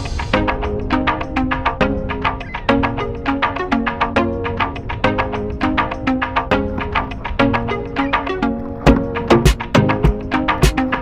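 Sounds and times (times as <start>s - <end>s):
latin percussion music: 0.0s - 11.0s.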